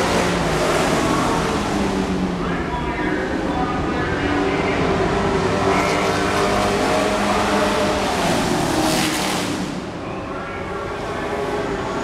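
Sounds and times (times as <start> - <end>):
race truck engines roaring: 0.0 - 12.0.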